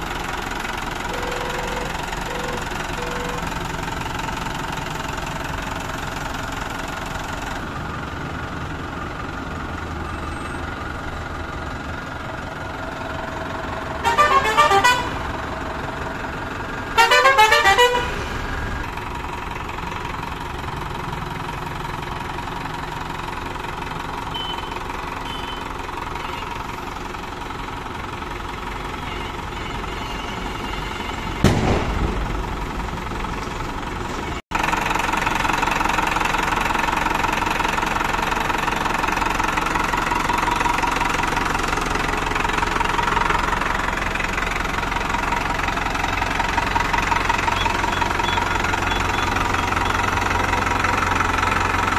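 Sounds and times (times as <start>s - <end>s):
tractor diesel engine idling: 0.0s - 51.9s.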